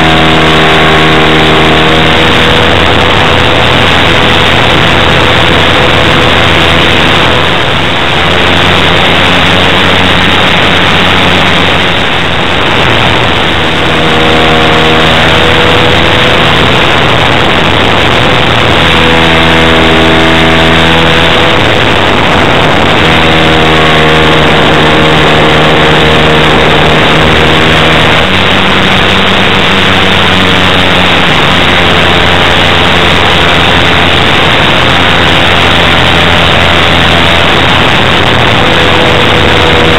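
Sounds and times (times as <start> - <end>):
model plane engine running: 0.0 - 39.9.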